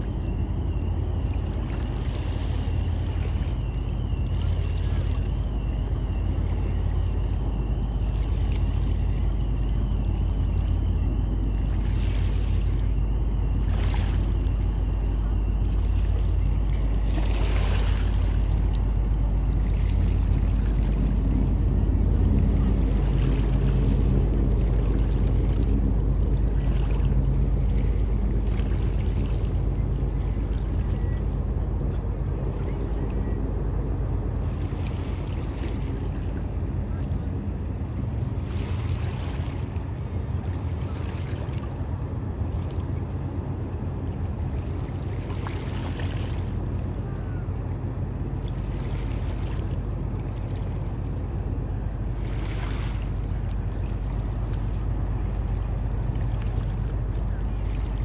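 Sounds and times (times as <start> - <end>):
ferry engine rumble: 0.0 - 58.0
water lapping: 0.0 - 58.0.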